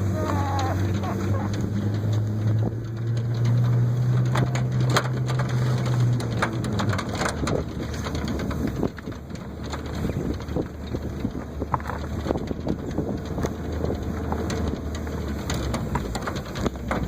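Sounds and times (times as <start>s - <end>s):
sled crunching over snow: 0.0s - 17.0s
truck engine pulling under load: 0.0s - 17.0s.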